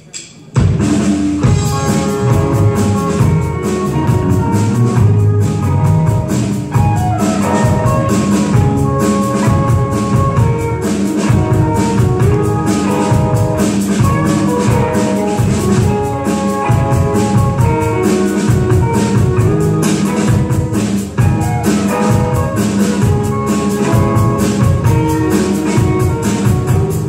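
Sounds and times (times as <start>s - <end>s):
drum kit steady beat: 0.0s - 27.0s
bass guitar: 0.6s - 27.0s
distorted electric guitars: 0.6s - 27.0s
guitar melody: 0.8s - 27.0s.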